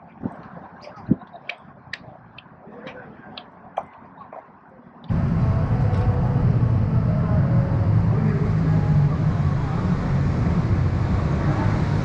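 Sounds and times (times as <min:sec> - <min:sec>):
faint voices: 0:00.0 - 0:11.9
low rumble of riverside ambience: 0:00.0 - 0:12.0.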